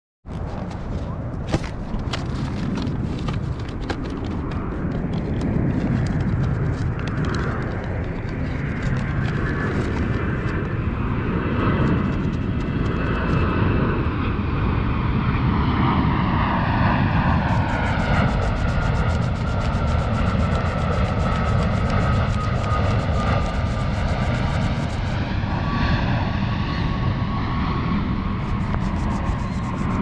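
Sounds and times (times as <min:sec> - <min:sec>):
jet airliner rumble: 0:00.3 - 0:30.0
jet engine whine: 0:00.3 - 0:30.0.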